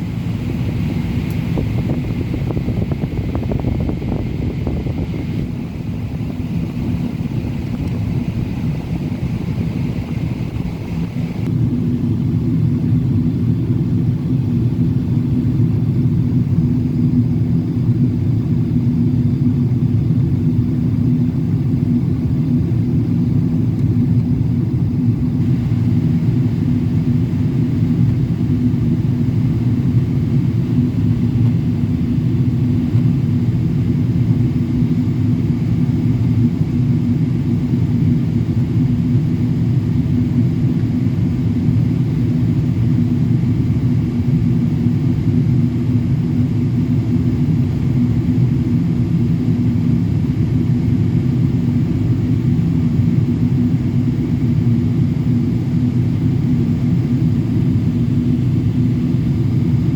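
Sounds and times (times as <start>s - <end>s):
faint steady hum: 0.0s - 59.9s
jet engines rumbling: 0.0s - 59.9s.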